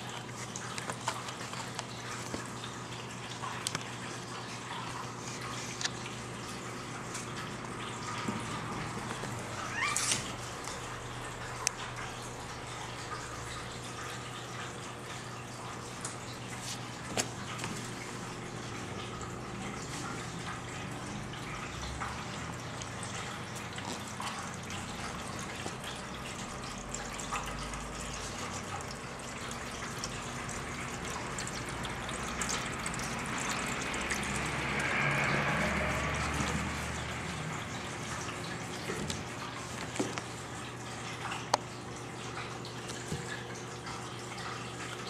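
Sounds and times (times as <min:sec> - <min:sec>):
low pump hum: 0:00.0 - 0:45.0
water trickling in fountain: 0:00.0 - 0:45.0.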